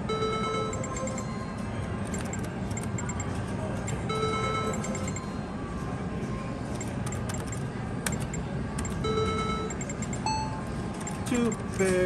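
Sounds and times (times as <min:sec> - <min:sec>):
casino slot floor din: 0:00.1 - 0:06.0, 0:06.6 - 0:12.0.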